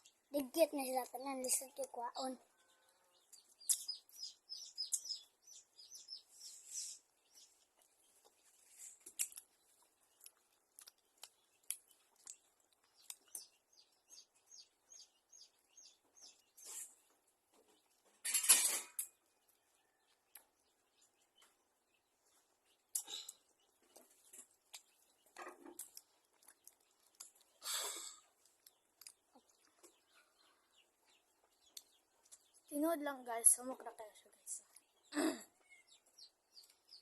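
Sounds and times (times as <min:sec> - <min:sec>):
small bird chirping: 0:00.0 - 0:37.0.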